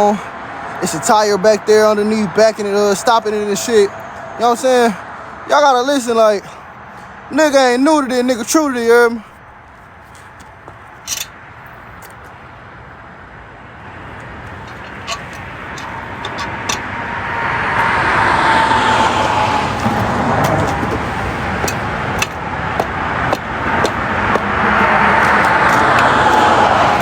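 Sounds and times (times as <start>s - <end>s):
motor vehicle noise: 0.0s - 27.0s.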